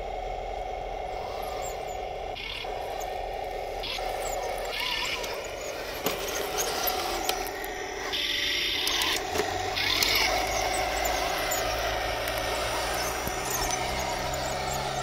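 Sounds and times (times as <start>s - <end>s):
steady hum: 0.0s - 15.0s
toy tank motors whining: 0.0s - 15.0s
plastic tracks clicking on stones: 2.4s - 15.0s.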